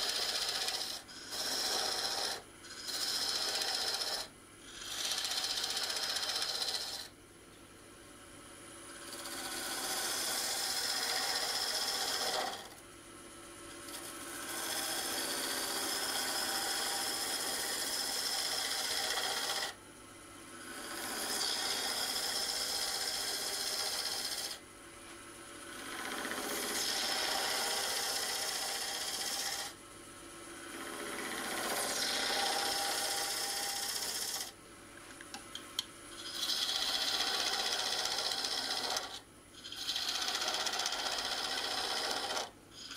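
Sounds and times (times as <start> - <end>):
lathe motor hum: 0.0 - 7.1, 9.0 - 12.8, 13.9 - 19.7, 20.6 - 24.6, 25.6 - 29.7, 30.6 - 34.5, 36.2 - 42.9
lathe tool cutting wood: 0.0 - 7.1, 9.0 - 12.8, 13.9 - 19.8, 20.6 - 24.6, 25.6 - 29.8, 30.6 - 34.5, 36.2 - 42.9.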